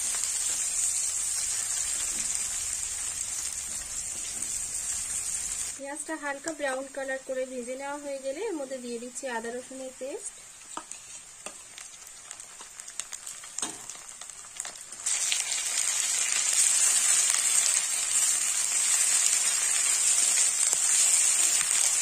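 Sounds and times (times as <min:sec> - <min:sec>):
oil sizzling and spattering: 0:00.0 - 0:07.0, 0:10.1 - 0:22.0.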